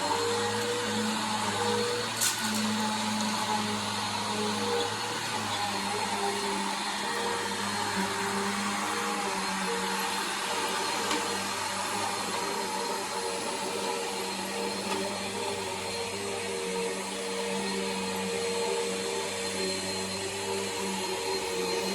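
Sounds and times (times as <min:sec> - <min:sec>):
vacuum cleaner motor hum: 0:00.0 - 0:21.9.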